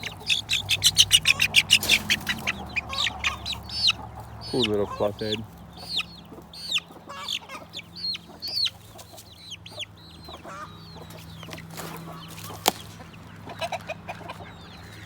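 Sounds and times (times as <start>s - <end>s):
chick peeping: 0.0s - 15.0s
hen clucking: 0.0s - 15.0s.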